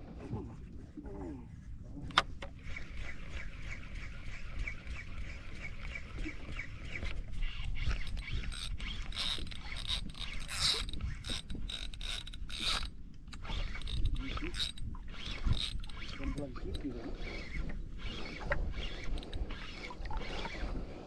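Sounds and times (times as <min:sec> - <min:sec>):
fishing reel gears whirring: 0:02.5 - 0:21.0.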